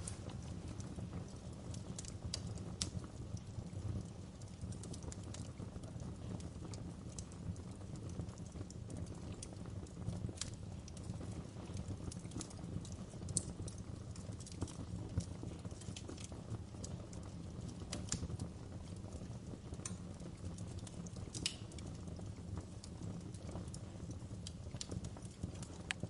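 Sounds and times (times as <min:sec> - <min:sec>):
fire crackling: 0:00.0 - 0:26.0
sharp pops and snaps: 0:01.7 - 0:05.6, 0:07.9 - 0:18.8, 0:19.5 - 0:26.0.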